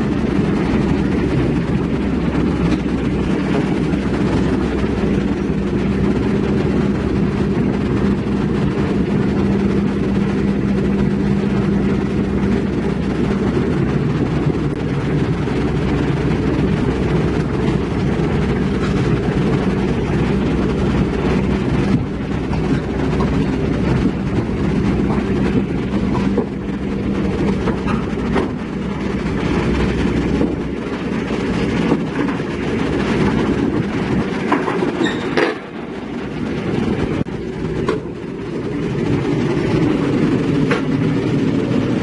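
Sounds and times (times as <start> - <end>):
heavy diesel engine rumbling: 0.0 - 42.0.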